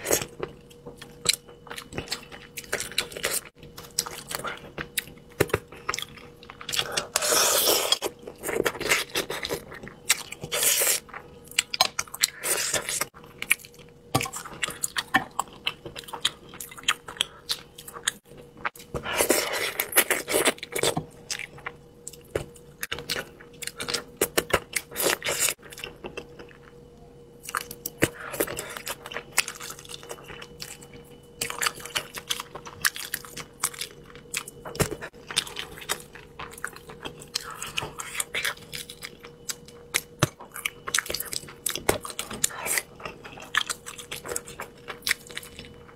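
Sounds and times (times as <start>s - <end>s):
wet chewing and lip sounds: 0.0s - 45.9s.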